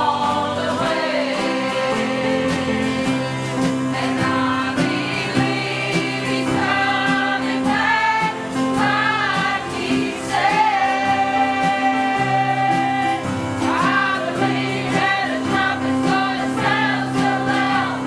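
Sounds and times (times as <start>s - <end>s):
choir singing a hymn: 0.0s - 18.0s
instrumental accompaniment with bass: 0.0s - 18.0s.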